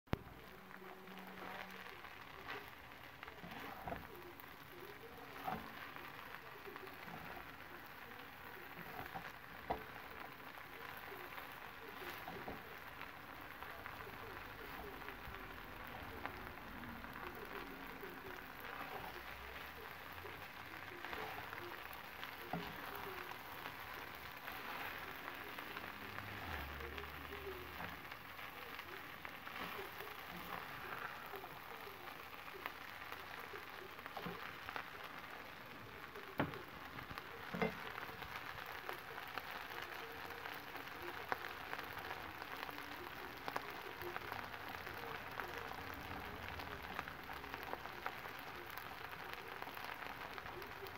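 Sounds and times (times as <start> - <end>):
rice sizzling in a skillet: 0.1 - 50.9.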